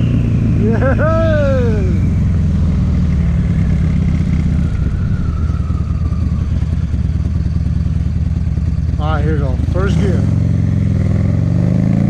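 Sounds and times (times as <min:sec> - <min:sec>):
motorcycle engine deep rumble: 0:00.0 - 0:12.0.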